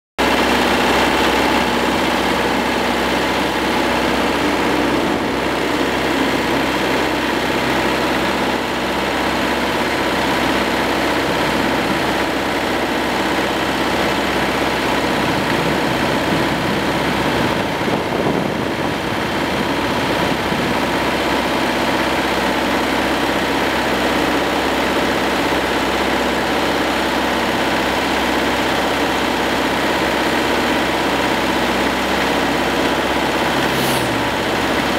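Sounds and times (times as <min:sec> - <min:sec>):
diesel tractor engine running: 0:00.2 - 0:34.9.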